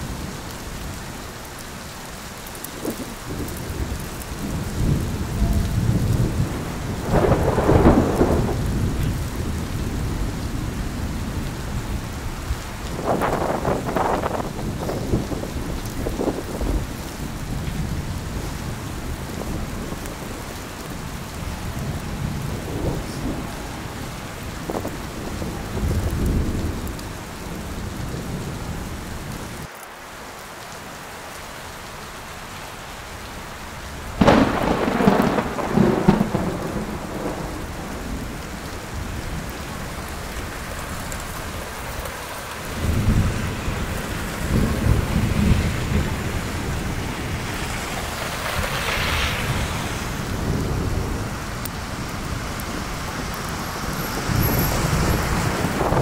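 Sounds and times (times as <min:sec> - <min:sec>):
snowstorm hiss: 0:00.0 - 0:56.0.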